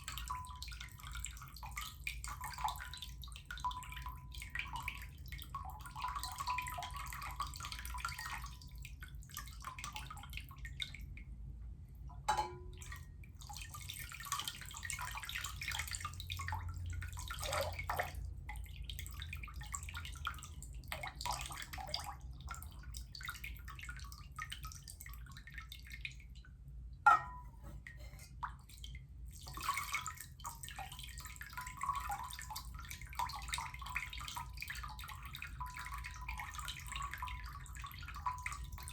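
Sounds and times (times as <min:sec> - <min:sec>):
water splashing and trickling: 0:00.0 - 0:11.3, 0:12.0 - 0:38.9.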